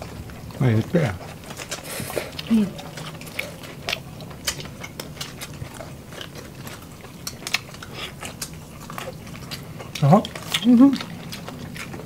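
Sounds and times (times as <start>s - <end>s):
people chewing and biting food: 0.0s - 12.0s.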